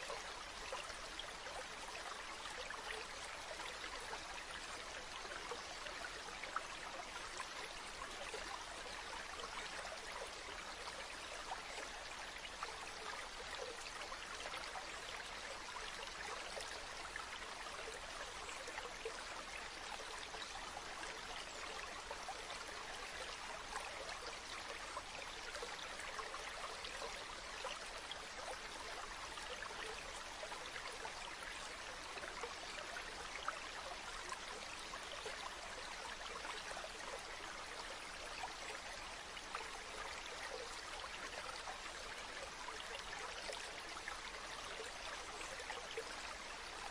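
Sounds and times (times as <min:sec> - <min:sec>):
stream babbling: 0:00.0 - 0:46.9.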